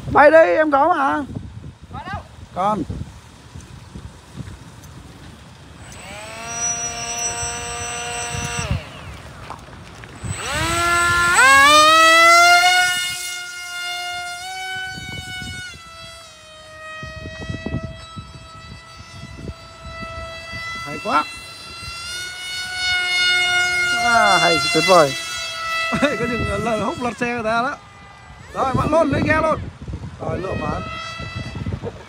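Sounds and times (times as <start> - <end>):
model plane electric motor whining: 0.0 - 32.0.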